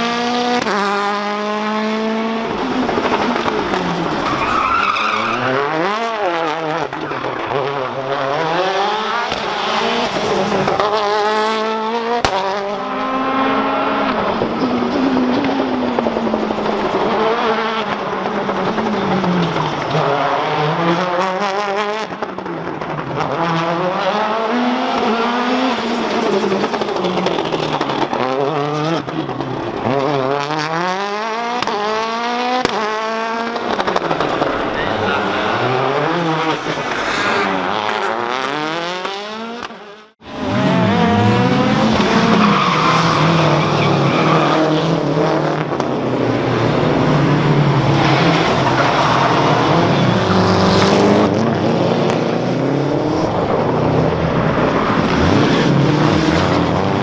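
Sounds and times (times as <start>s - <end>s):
rally car engine accelerating and braking: 0.0s - 57.0s.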